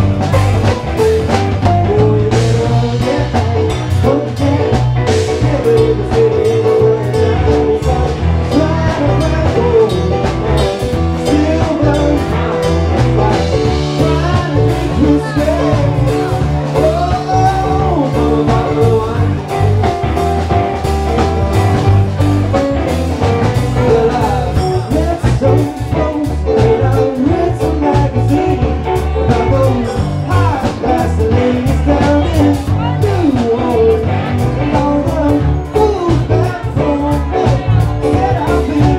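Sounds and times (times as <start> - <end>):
funk-jazz band playing: 0.0 - 38.9
person singing: 0.0 - 38.9.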